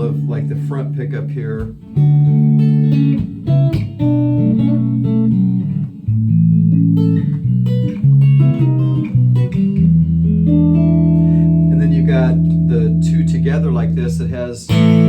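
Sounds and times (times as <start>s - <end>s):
electric guitar notes and chords: 0.0s - 15.0s.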